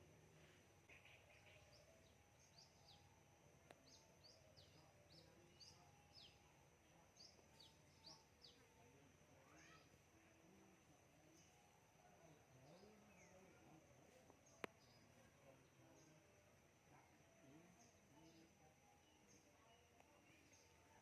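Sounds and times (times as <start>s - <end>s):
faint bird chirps: 0.0s - 21.0s.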